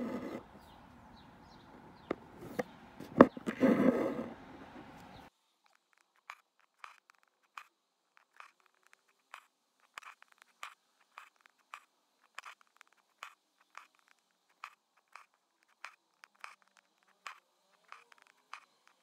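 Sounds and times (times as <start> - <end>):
needle and thread through fabric: 0.0 - 0.5, 2.4 - 4.8, 5.6 - 19.0.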